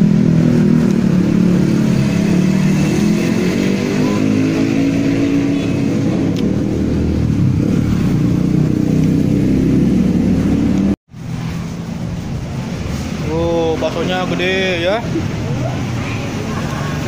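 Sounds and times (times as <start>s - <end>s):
street traffic passing: 0.0s - 17.0s.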